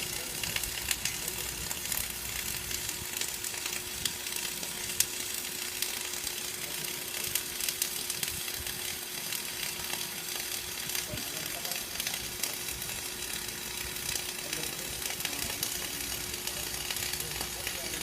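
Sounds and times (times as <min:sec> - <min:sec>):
sharp welding pops: 0:00.0 - 0:18.0
welding arc crackling: 0:00.0 - 0:18.0.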